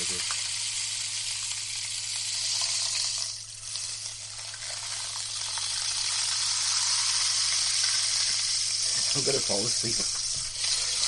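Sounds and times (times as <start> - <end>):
rainstick pattering: 1.4 - 11.0.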